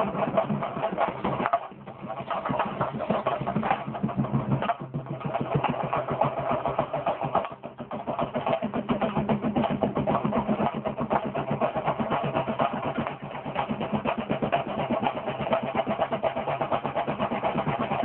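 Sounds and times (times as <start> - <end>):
drums beaten fast: 0.0 - 18.0.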